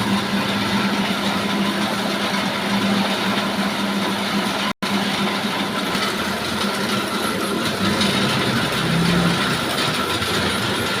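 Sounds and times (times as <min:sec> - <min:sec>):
sawmill mechanical din: 0:00.0 - 0:11.0.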